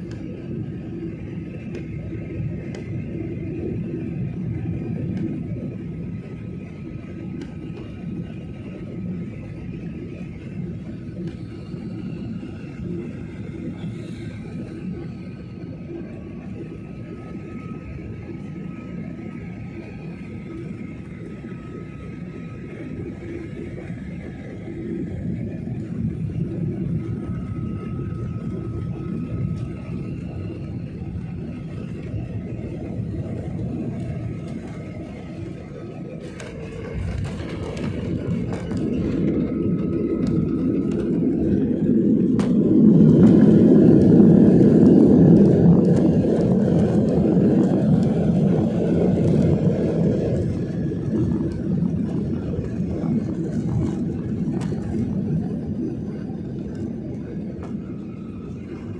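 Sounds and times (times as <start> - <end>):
aircraft landing rumble: 0.0 - 58.9.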